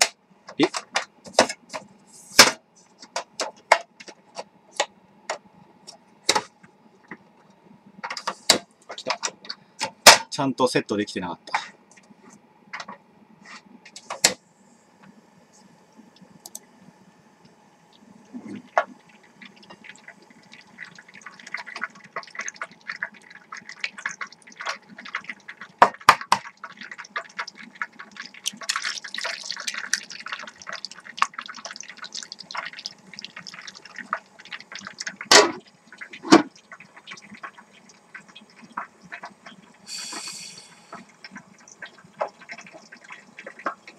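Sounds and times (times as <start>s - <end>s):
oil sizzling and popping in pan: 0.0s - 10.4s, 17.4s - 43.9s.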